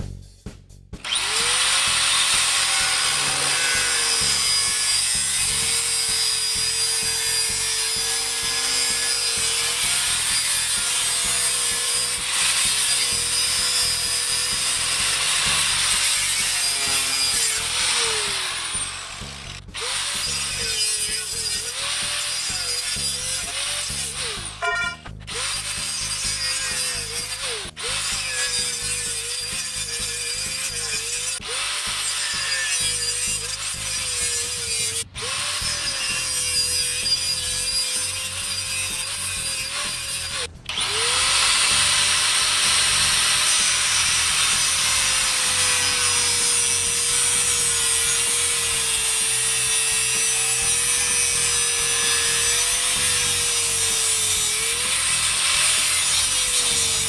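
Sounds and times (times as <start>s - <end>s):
angle grinder cutting steel: 1.0s - 57.0s.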